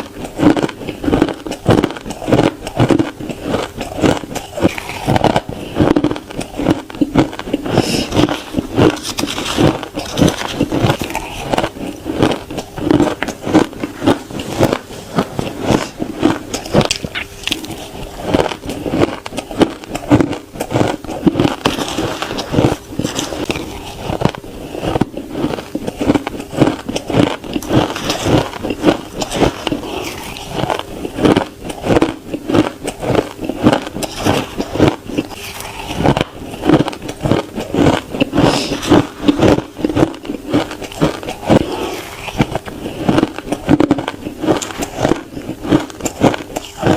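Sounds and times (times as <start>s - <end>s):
ice crunching between teeth: 0.0s - 46.9s.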